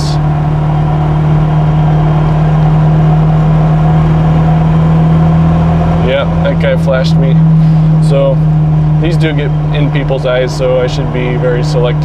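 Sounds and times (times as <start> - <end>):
car engine droning: 0.0 - 12.0
road noise: 0.0 - 12.0.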